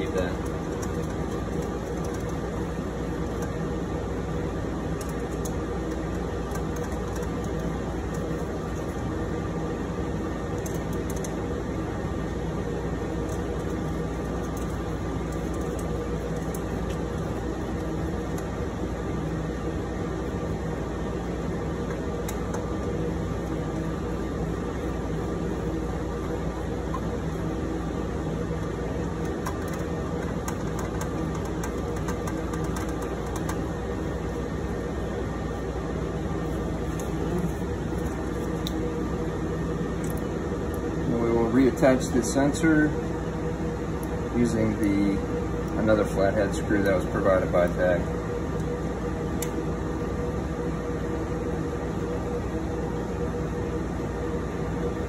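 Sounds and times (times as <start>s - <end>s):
cooling fans humming: 0.0s - 55.0s.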